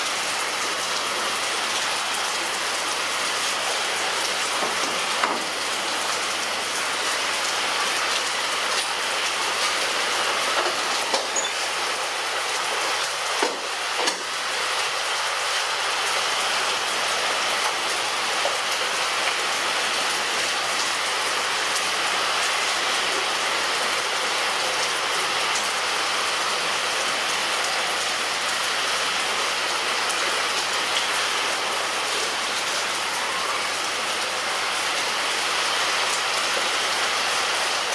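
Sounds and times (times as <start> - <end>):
rain falling on a roof: 0.0 - 37.9.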